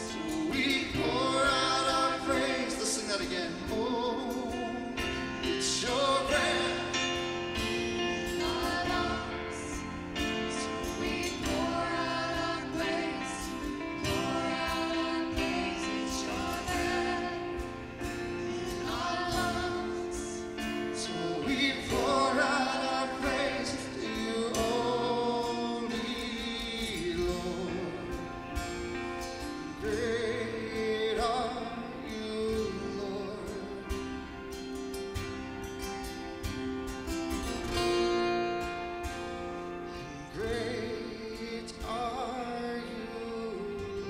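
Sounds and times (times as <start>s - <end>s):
choir singing gospel song: 0.0s - 35.4s, 36.4s - 44.0s.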